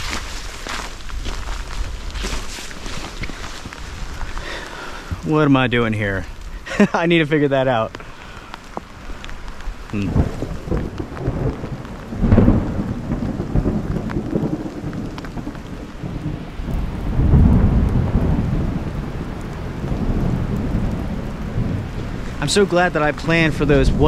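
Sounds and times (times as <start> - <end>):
steady rain: 0.0 - 24.0
thunder rumbling: 1.8 - 24.0.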